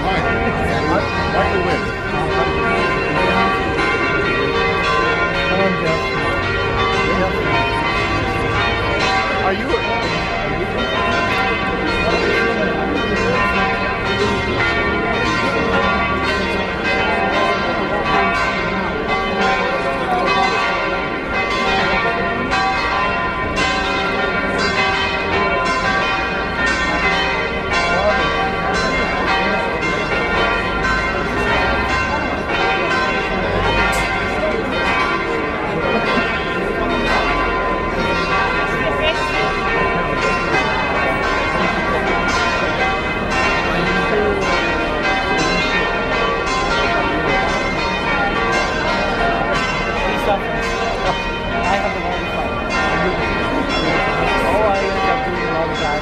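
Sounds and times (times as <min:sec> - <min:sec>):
church bells ringing: 0:00.0 - 0:56.0
crowd voices: 0:00.0 - 0:56.0.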